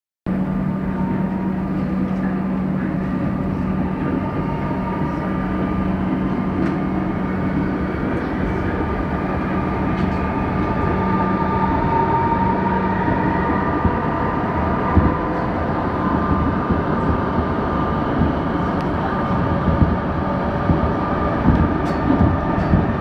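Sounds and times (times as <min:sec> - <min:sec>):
constant train whine: 0:00.3 - 0:23.0
train wheels rumbling on rail: 0:00.3 - 0:23.0.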